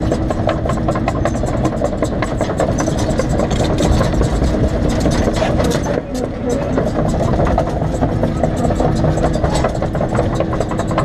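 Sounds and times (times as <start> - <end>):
excavator diesel engine: 0.0 - 11.0.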